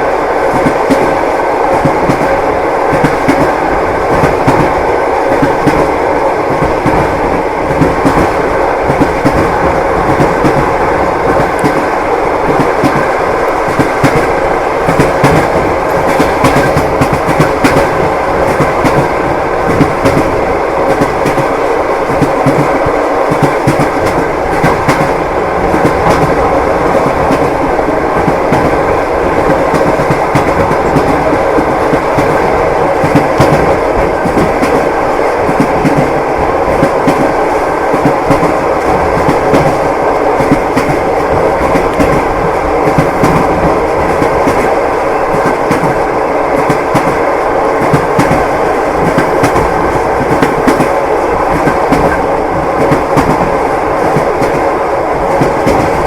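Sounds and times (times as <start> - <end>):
train rumble: 0.0 - 56.0
train wheels clattering: 0.4 - 56.0.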